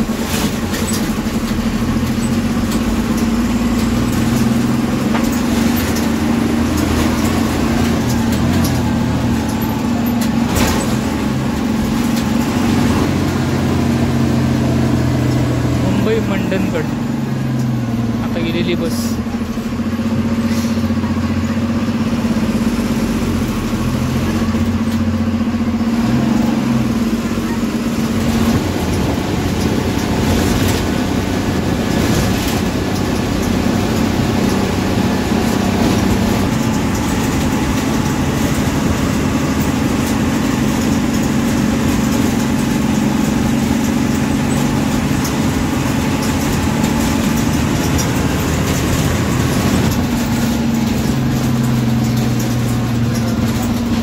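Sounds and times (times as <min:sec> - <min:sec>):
bus diesel engine humming: 0:00.0 - 0:54.0.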